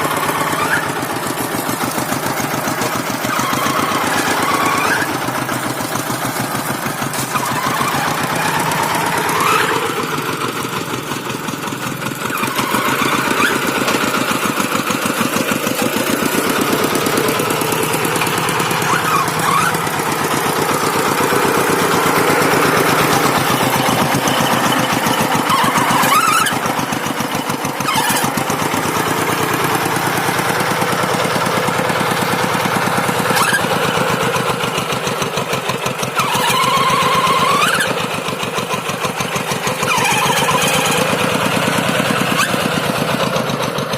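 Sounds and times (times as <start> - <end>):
diesel tractor engine knocking: 0.0 - 43.9.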